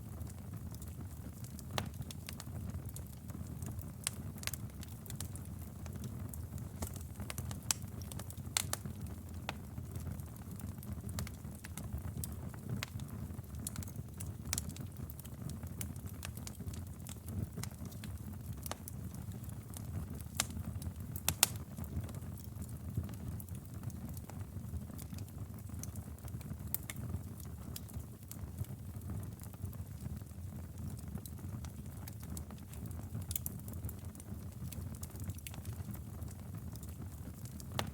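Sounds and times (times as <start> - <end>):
fire crackling and popping: 0.0 - 37.9
fire flames rumbling: 0.1 - 37.9.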